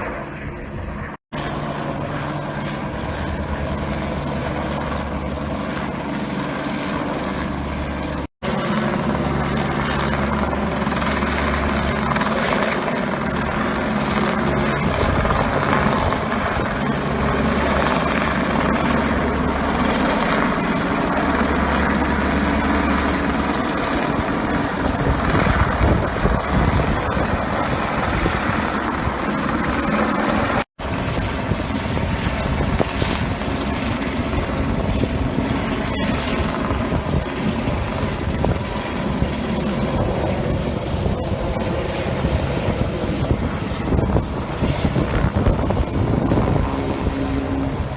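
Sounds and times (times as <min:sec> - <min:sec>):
helicopter rotor and engine: 0:00.0 - 0:47.9.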